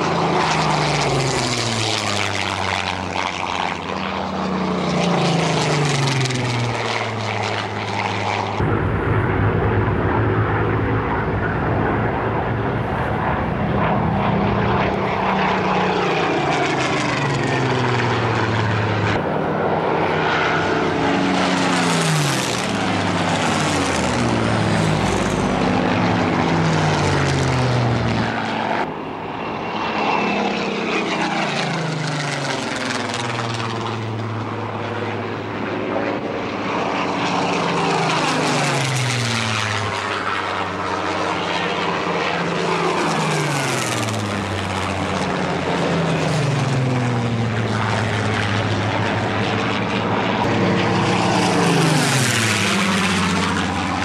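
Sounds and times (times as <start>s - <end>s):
aircraft piston engine fly-by: 0.0s - 54.0s.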